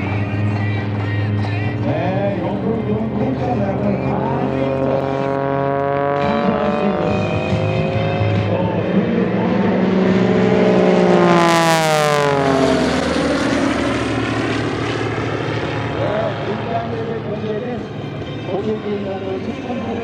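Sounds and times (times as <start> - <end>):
propeller plane flying past: 0.0 - 20.0.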